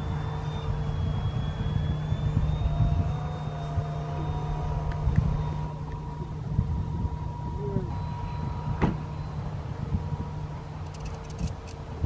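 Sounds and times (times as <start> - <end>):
low rumble: 0.0 - 12.0
model airplane motor whine: 0.0 - 12.0.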